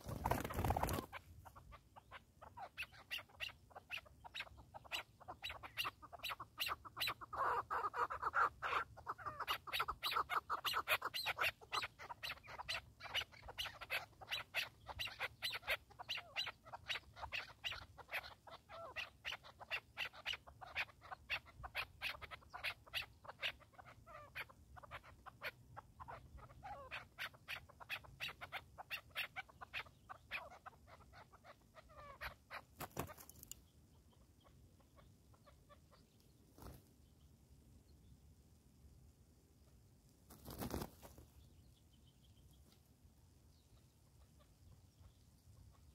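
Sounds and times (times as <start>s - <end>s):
partridges calling: 0.0s - 36.8s.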